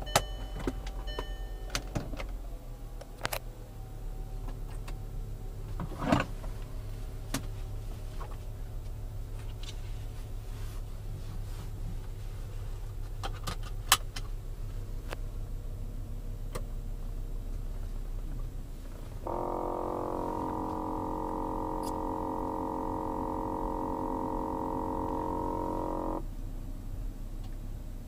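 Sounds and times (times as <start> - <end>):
loud steady buzz from car: 0.0 - 28.0
low steady car hum: 0.0 - 28.0.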